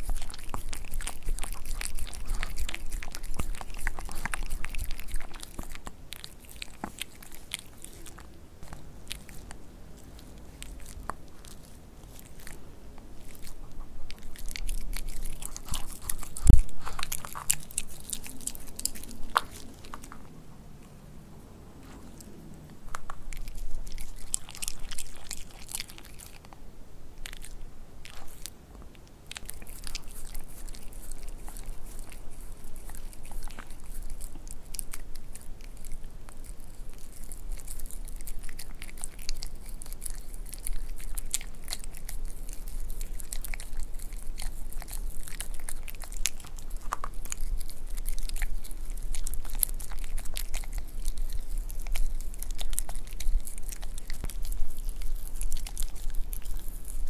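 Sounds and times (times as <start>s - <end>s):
dog chewing meat: 0.0s - 57.0s.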